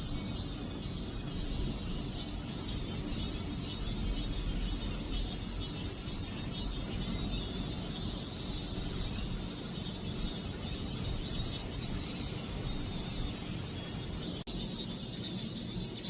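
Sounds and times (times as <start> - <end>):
cicadas buzzing: 0.0 - 16.0
low background rumble: 0.0 - 16.0.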